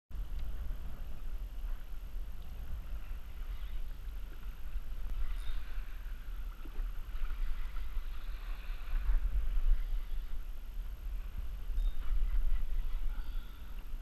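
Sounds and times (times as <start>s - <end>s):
wind rumbling on microphone: 0.1s - 14.0s
water sloshing against kayak hull: 0.2s - 14.0s.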